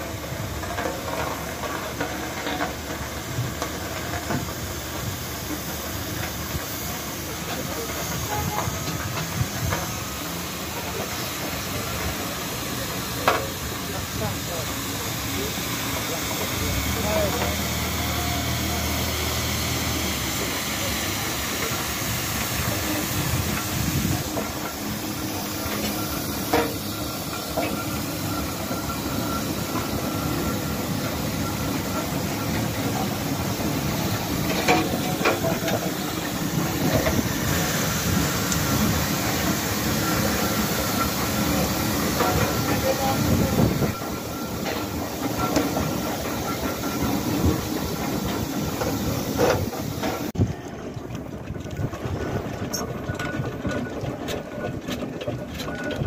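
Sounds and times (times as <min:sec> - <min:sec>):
steam hissing: 0:00.0 - 0:50.4
steam roller engines working: 0:00.0 - 0:56.0.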